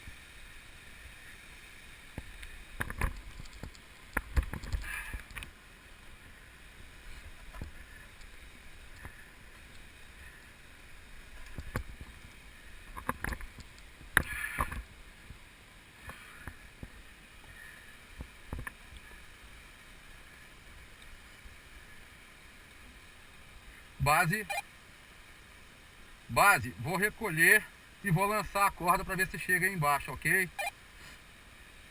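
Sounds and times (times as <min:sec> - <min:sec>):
faint outdoor noise: 0:00.0 - 0:31.9.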